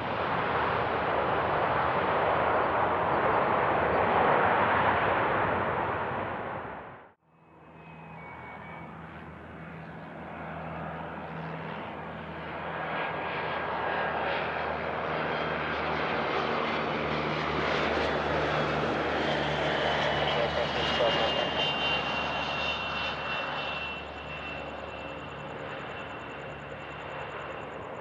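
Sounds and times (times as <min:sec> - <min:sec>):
aircraft engines: 0:00.0 - 0:28.0
high engine whine: 0:00.0 - 0:28.0.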